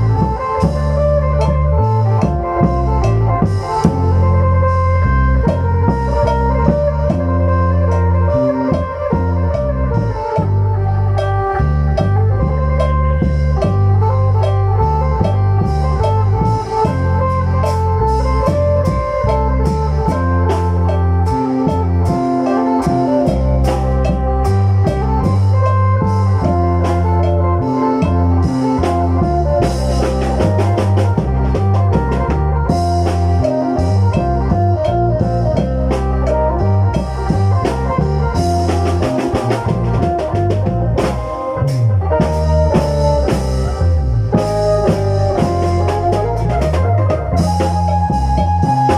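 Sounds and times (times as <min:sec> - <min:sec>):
drums: 0:00.0 - 0:48.9
low bass line: 0:00.0 - 0:48.9.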